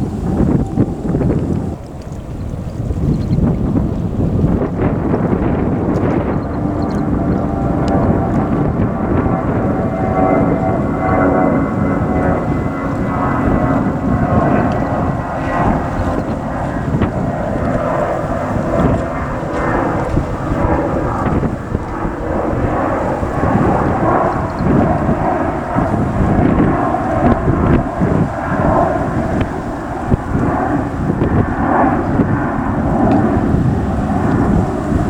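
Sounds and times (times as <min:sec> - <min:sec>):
faint engine whine: 0:00.0 - 0:35.0
jet engines rumbling: 0:00.0 - 0:35.0.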